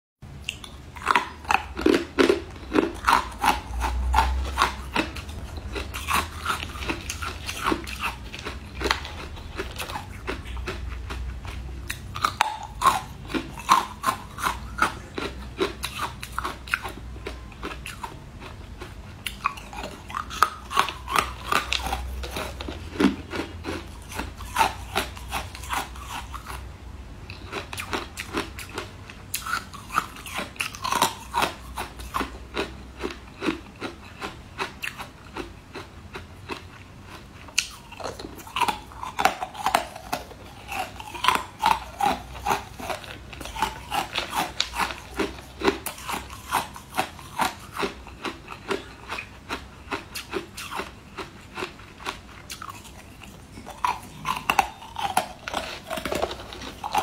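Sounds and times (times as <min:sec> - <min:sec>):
ice being chewed: 0:00.4 - 0:26.6, 0:27.3 - 0:57.0.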